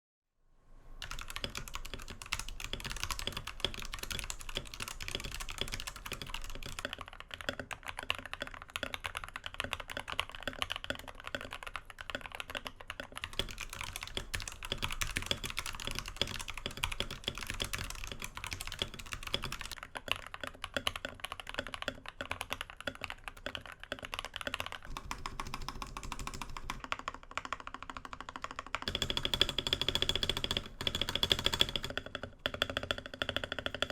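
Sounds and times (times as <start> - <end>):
fast typing on mechanical keyboard: 1.0 - 33.9.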